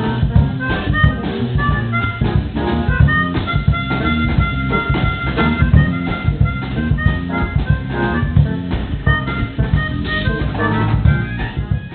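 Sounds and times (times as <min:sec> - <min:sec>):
steady drum beat: 0:00.0 - 0:11.9
sustained organ-like notes: 0:00.0 - 0:11.9.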